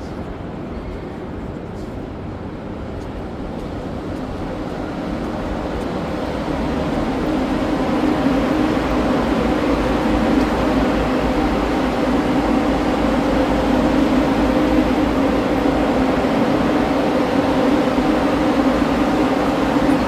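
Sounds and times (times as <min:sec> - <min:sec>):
tram running hum: 0:00.0 - 0:20.0.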